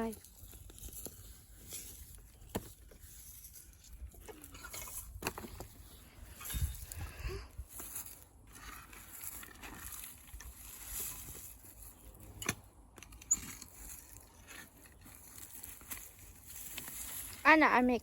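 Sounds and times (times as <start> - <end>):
rustling and scraping of soil: 0.0 - 18.0.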